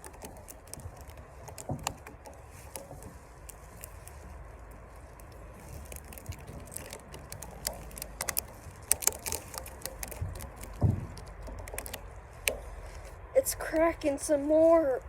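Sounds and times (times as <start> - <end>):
rubber bands snapping: 0.0 - 13.2.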